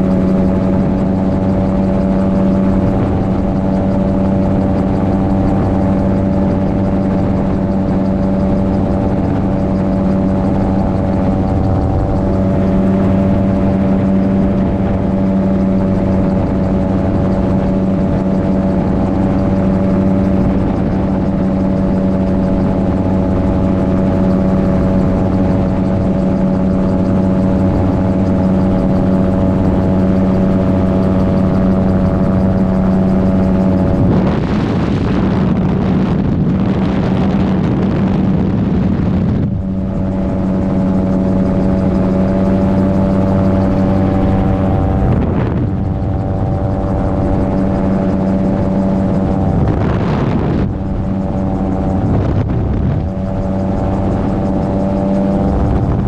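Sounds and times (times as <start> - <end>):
aircraft engine running: 0.0 - 56.0
wind on microphone: 0.0 - 56.0.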